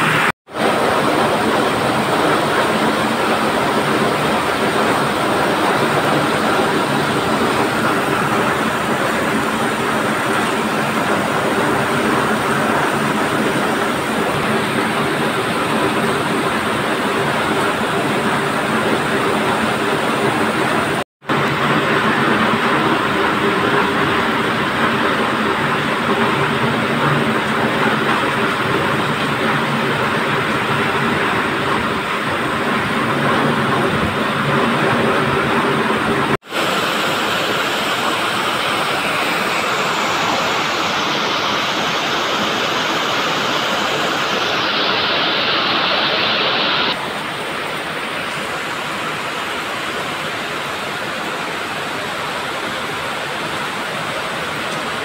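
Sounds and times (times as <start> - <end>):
floodwater rushing over rocks: 0.0 - 55.0.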